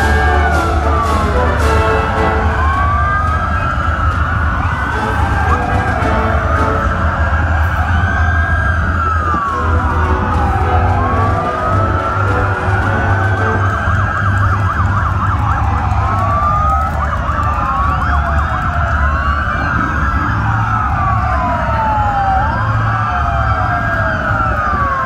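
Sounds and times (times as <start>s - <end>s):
emergency sirens wailing: 0.0s - 25.0s
low engine rumble: 0.0s - 25.0s.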